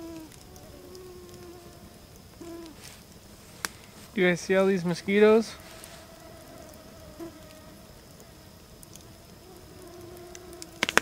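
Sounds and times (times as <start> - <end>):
mosquitoes whining: 0.0 - 11.0.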